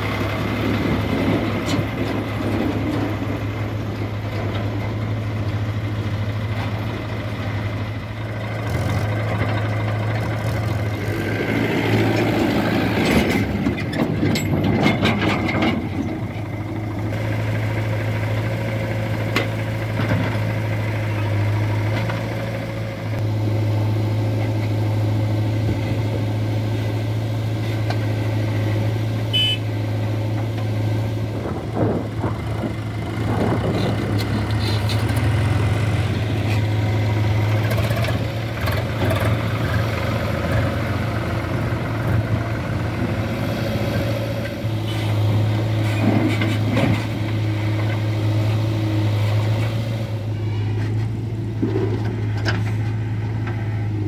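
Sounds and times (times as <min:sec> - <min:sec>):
backhoe digging and dumping soil: 0:00.0 - 0:54.0
diesel engines humming: 0:00.0 - 0:54.0.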